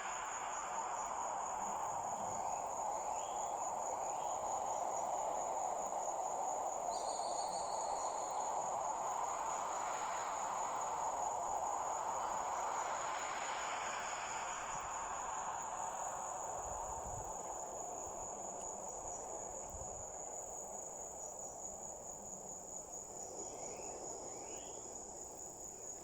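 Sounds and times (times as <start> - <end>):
crickets trilling: 0.0 - 26.0
soft hiss: 0.0 - 26.0.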